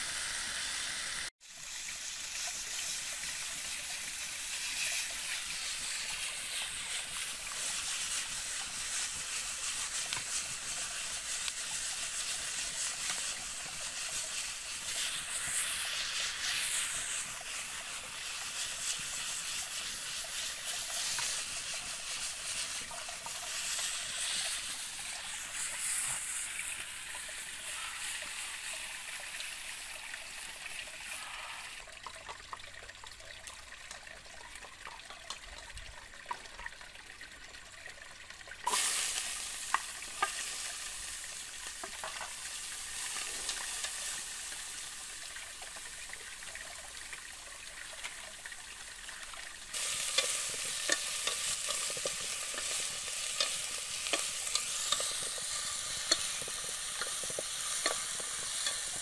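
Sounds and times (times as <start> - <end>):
food sizzling in a frying pan: 0.0 - 32.5, 38.6 - 59.0.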